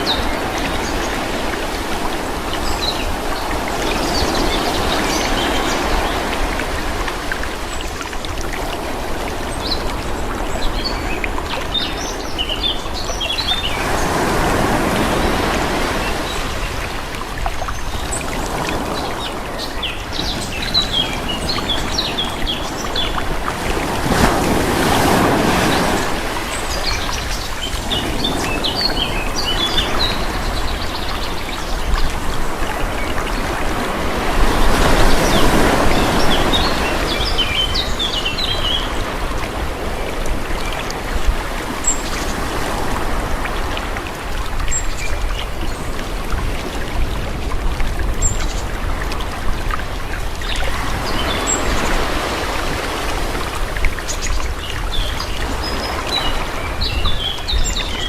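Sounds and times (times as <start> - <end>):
calm sea waves washing in: 0.0 - 58.0.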